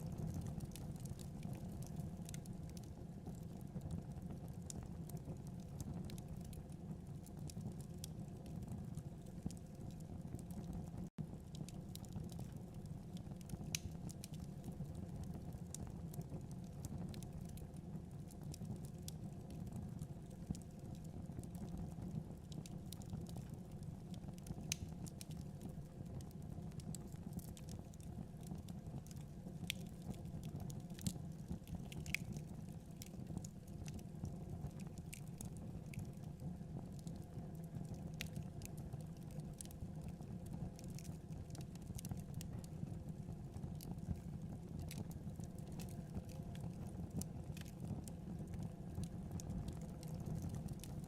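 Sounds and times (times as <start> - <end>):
fireplace fire crackling: 0.0 - 51.0.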